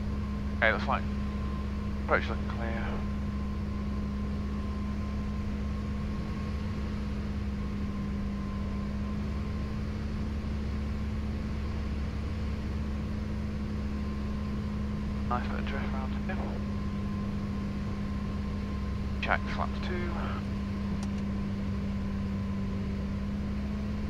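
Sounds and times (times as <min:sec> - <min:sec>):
aircraft engine and propeller droning: 0:00.0 - 0:24.0.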